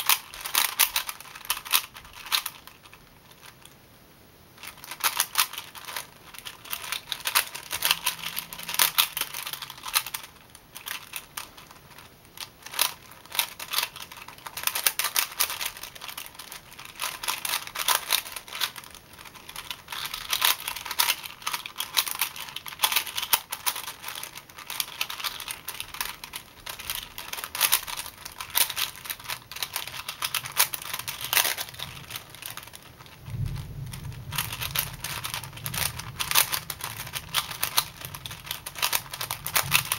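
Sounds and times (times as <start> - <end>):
puzzle cube layers clicking: 0.0 - 3.7, 4.6 - 39.9.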